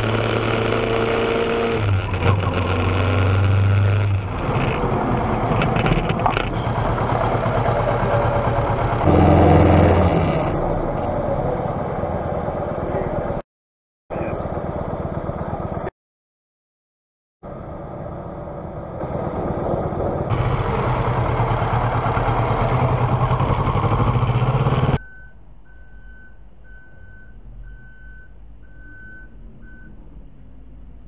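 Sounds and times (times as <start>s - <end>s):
road and wind noise: 0.0s - 13.4s, 14.2s - 15.9s, 17.4s - 31.0s
vehicle engine running: 0.0s - 13.4s, 14.1s - 15.9s, 17.4s - 31.0s.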